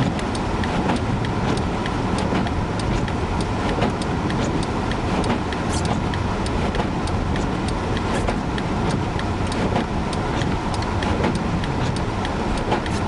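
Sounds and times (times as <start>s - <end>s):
sharp ticks: 0.0s - 13.0s
wind and road noise in car: 0.0s - 13.0s.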